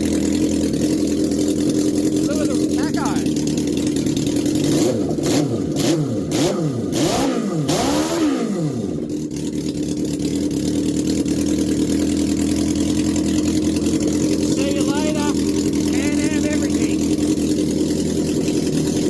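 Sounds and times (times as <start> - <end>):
motorcycle engine revving and idling: 0.0 - 19.0.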